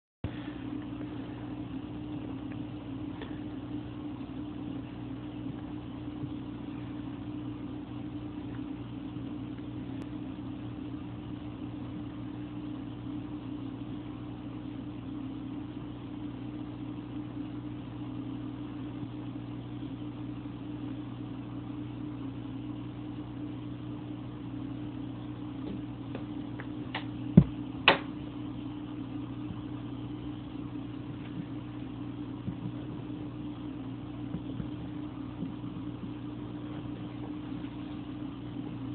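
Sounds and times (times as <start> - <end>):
aquarium pump humming: 0.2 - 38.9.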